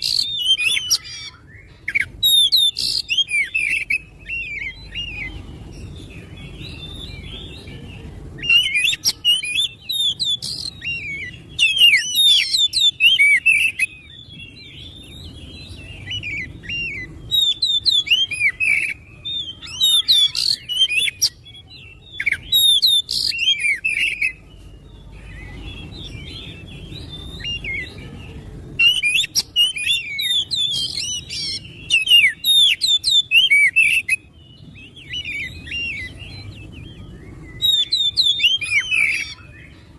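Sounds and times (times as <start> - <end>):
bird singing whistled phrases: 0.0 - 39.9
bird twittering: 0.0 - 39.9.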